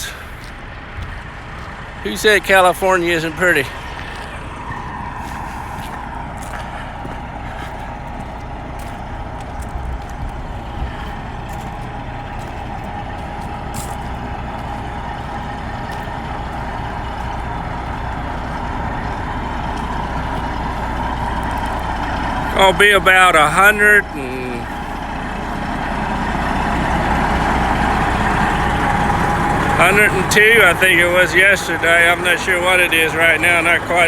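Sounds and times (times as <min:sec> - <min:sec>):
diesel engine drone: 0:00.0 - 0:34.0
road noise with whine: 0:00.0 - 0:34.0.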